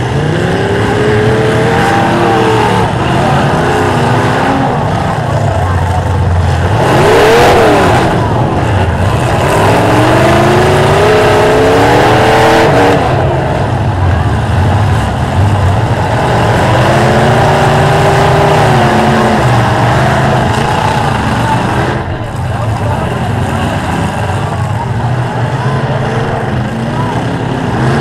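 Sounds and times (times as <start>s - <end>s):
car engines revving hard: 0.0s - 28.0s.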